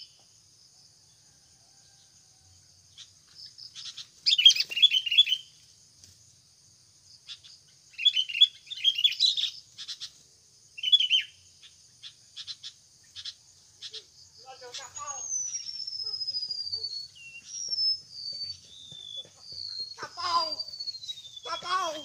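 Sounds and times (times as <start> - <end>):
insects buzzing: 0.0 - 22.0
bird chirping: 2.8 - 5.8, 7.0 - 22.0.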